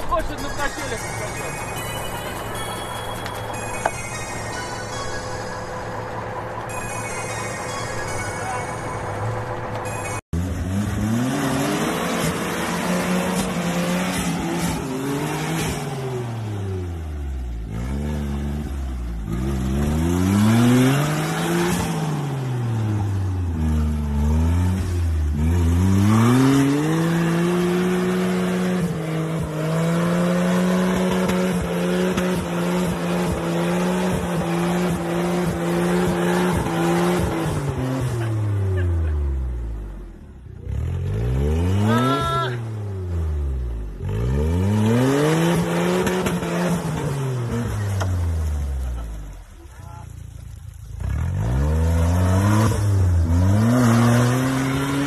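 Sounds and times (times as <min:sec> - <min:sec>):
off-road vehicle engine revving: 0:10.3 - 0:55.0.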